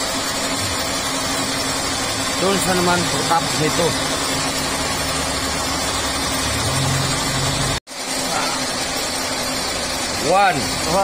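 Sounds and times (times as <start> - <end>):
shop machinery running: 0.0 - 11.0.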